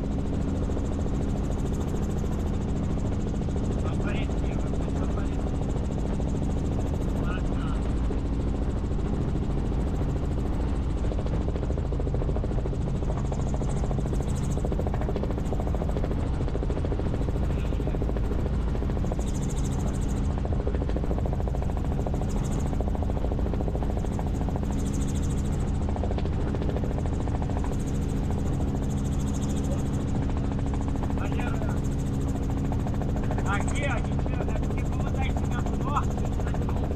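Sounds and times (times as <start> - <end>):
helicopter engine and rotor droning: 0.0 - 36.9.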